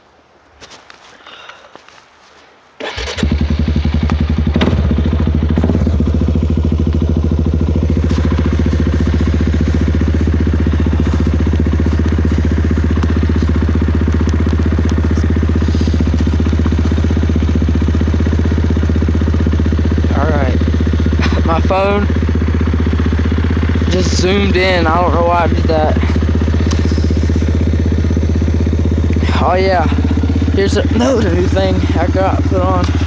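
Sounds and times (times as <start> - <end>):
atv engine running: 2.8 - 33.0.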